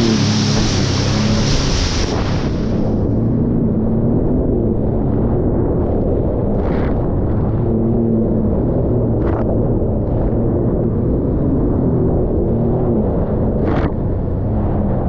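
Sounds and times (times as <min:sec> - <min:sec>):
watercraft engine drone: 0:00.0 - 0:15.0
wind buffeting microphone: 0:00.0 - 0:15.0.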